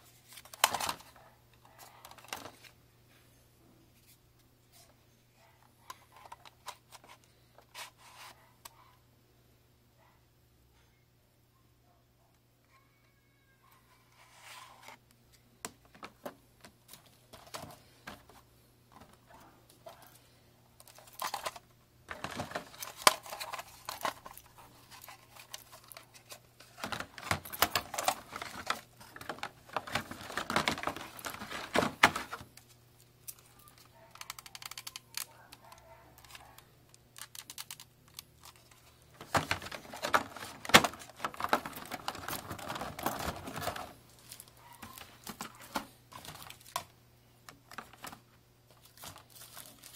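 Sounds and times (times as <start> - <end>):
faint low hum: 0.0 - 49.9.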